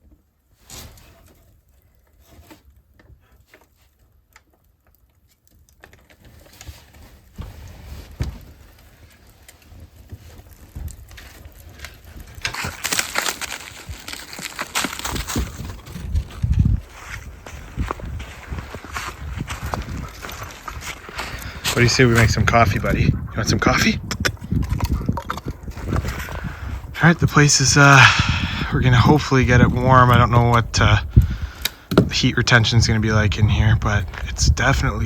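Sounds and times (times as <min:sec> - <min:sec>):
wood stove fire crackling: 0:00.2 - 0:24.6, 0:25.5 - 0:34.6.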